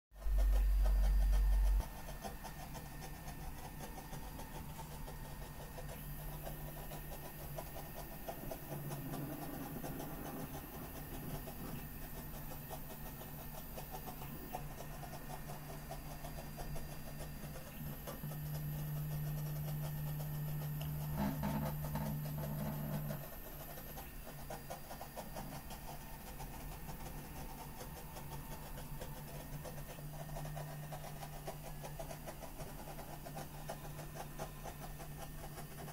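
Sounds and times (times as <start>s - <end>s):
stepper motors humming: 0.2s - 35.9s.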